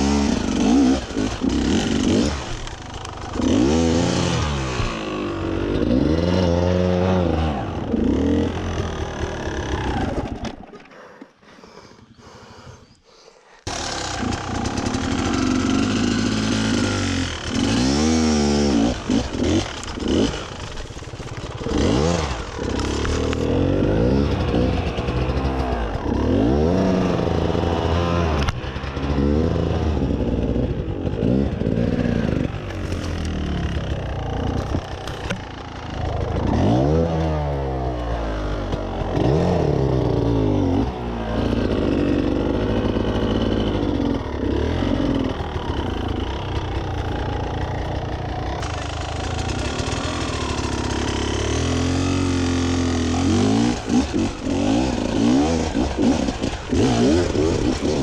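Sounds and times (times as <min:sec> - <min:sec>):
dirt bike engine revving: 0:00.0 - 0:10.7, 0:13.7 - 0:58.0.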